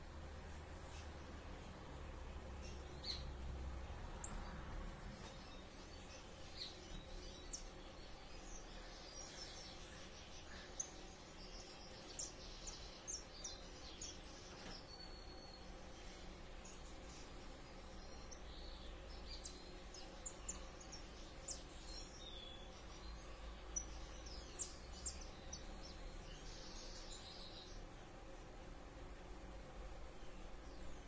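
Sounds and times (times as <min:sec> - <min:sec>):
faint birds chirping: 0:00.0 - 0:31.0
low steady hum: 0:00.0 - 0:31.0.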